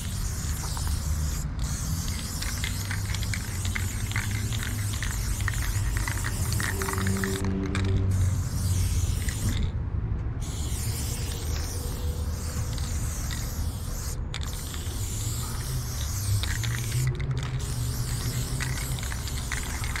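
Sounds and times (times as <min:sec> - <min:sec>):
spray paint can hissing: 0:00.0 - 0:09.8, 0:10.4 - 0:20.0.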